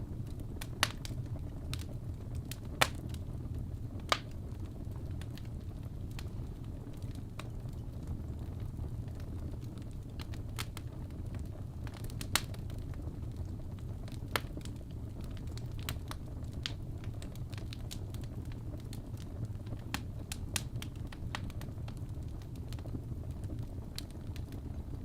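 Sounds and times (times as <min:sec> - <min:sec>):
logs crackling and popping: 0:00.0 - 0:25.0
low rumble of flame: 0:00.0 - 0:25.0.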